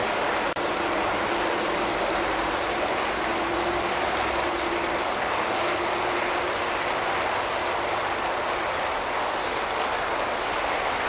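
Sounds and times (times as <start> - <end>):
model train wheels rolling on rails: 0.0 - 11.0.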